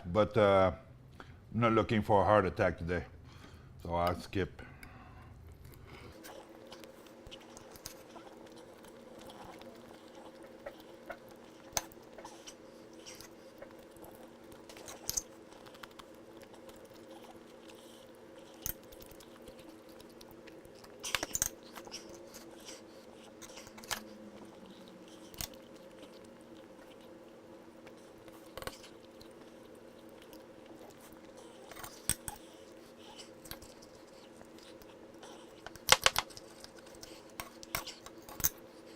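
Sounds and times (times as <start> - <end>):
steady low hum: 0.0 - 38.9
person chewing steak: 4.8 - 38.9.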